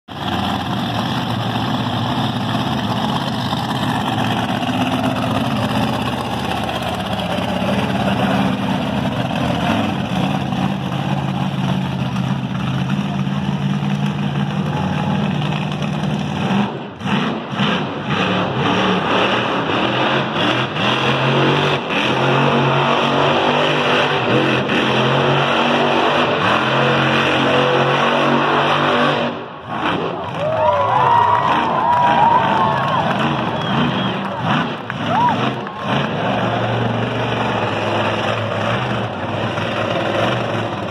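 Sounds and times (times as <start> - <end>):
monster truck engine revving: 0.1 - 40.9.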